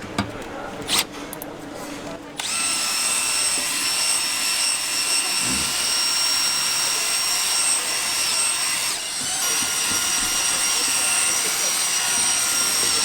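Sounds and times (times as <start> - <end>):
small electric motor whining: 2.4 - 13.0.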